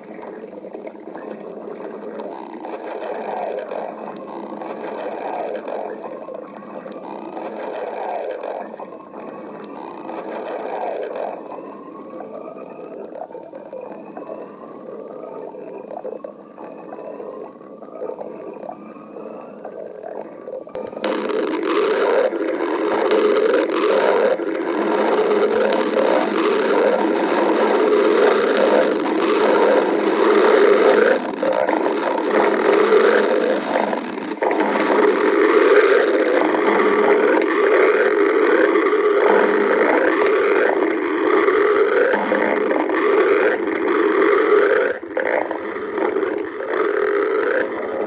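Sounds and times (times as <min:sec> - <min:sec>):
stomach growling: 0:00.0 - 0:48.0.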